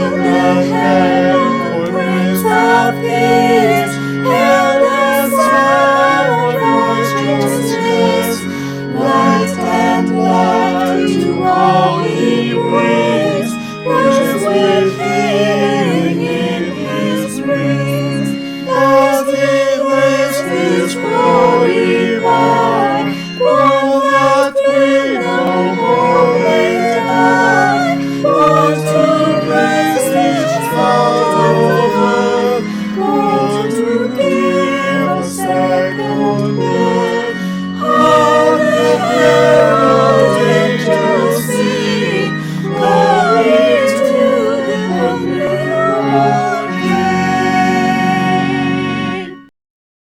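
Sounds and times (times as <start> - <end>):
choir singing: 0.0 - 49.5.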